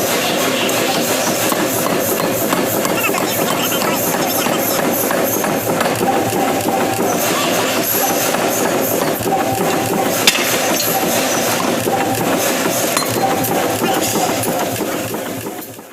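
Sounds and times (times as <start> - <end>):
forge shop noise: 0.0 - 15.9.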